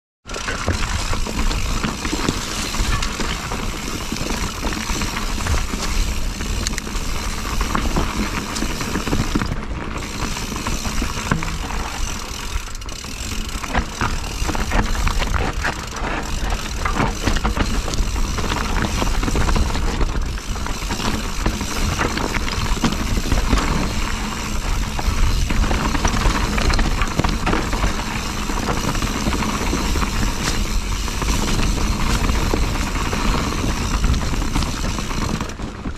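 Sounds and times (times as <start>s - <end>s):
bike rattling and clicking: 0.2s - 35.9s
bike tyre noise: 0.2s - 35.9s
wind rumbling on microphone: 0.6s - 35.9s.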